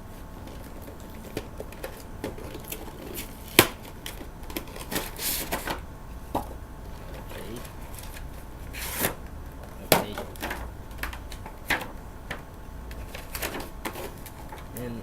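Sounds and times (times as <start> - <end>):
ripping rustle: 0.2 - 5.8, 6.9 - 15.0.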